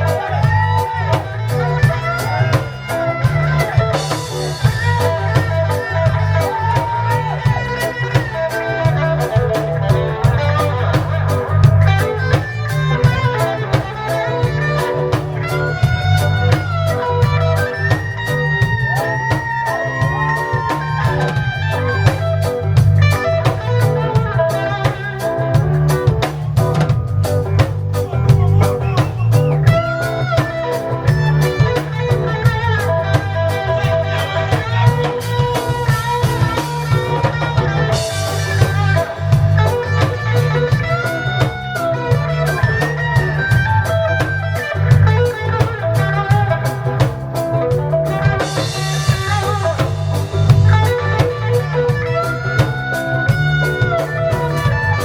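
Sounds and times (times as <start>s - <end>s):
drums: 0.0s - 55.0s
electric guitar lines: 0.0s - 55.0s
heavy bass line: 0.0s - 55.0s.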